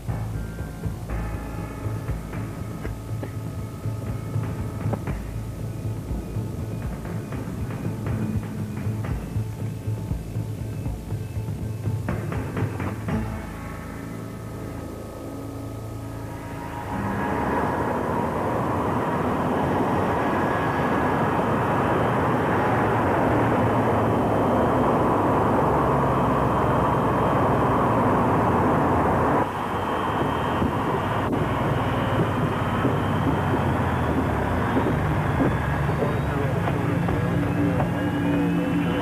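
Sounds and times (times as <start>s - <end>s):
airplane engines droning: 0.0s - 39.0s.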